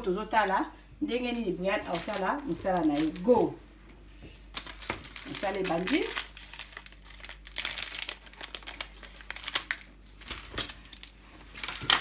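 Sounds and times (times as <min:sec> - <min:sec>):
aluminium foil crackling: 0:01.2 - 0:03.6, 0:04.5 - 0:12.0
pastry tube crinkling: 0:01.2 - 0:03.7, 0:04.5 - 0:12.0.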